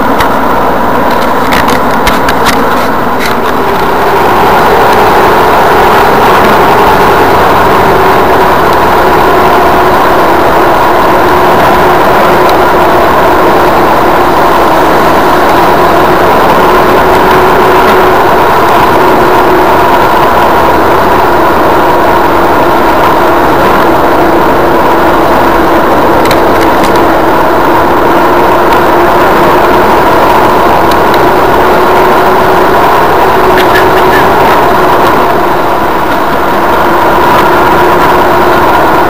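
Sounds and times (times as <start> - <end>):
car engine and road noise: 0.0 - 39.0
constant whine: 0.0 - 39.0.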